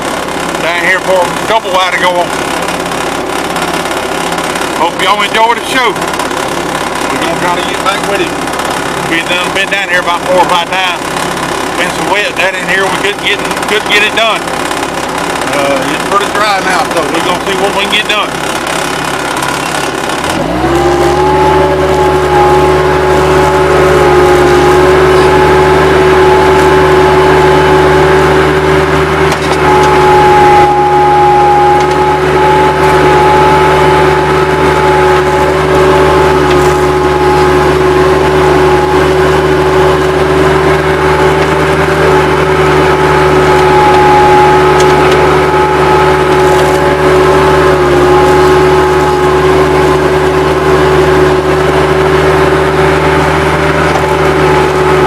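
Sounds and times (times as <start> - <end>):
diesel engine running at high revs: 0.0 - 55.0
steady whine: 0.0 - 55.0.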